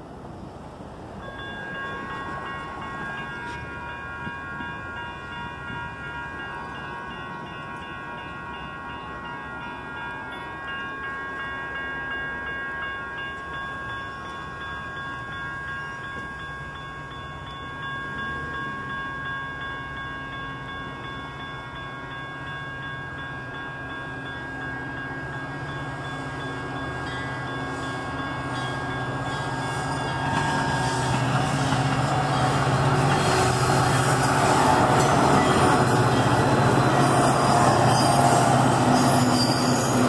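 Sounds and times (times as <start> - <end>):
diesel locomotive engine rumble: 0.0 - 40.0
railroad crossing bell ringing: 0.8 - 40.0.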